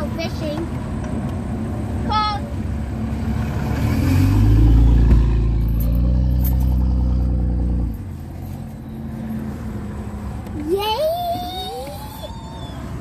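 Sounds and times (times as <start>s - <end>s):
vehicle engine running: 0.0s - 10.7s.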